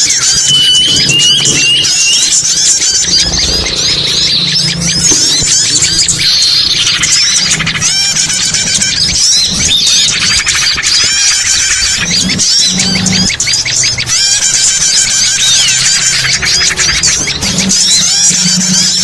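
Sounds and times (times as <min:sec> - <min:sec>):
small birds chirping and trilling: 0:00.0 - 0:19.0.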